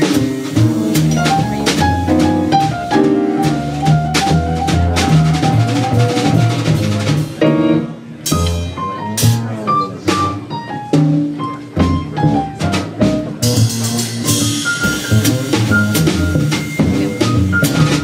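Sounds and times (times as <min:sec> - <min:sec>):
double bass line: 0:00.0 - 0:18.0
drum kit and cymbals: 0:00.0 - 0:18.0
grand piano: 0:00.0 - 0:18.0.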